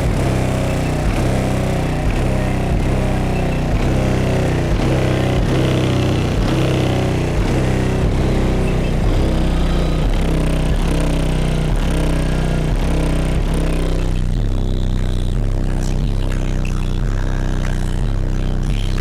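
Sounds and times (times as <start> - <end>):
distorted bass-heavy music: 0.0 - 19.0.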